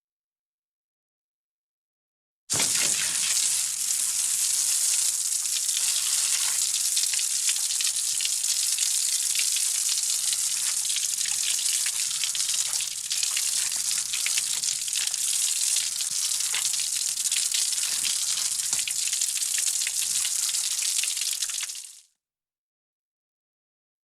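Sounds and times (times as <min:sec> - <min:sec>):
shower water spraying: 0:02.5 - 0:22.0.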